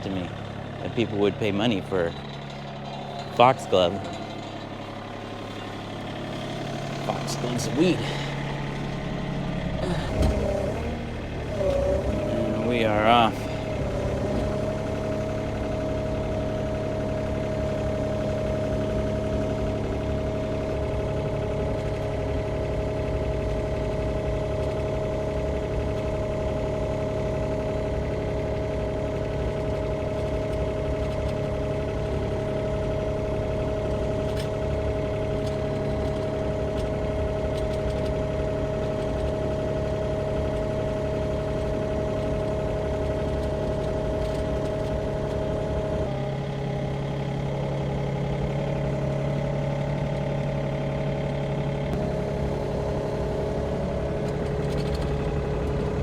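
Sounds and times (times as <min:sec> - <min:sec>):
mini excavator diesel engine: 0:00.0 - 0:56.0.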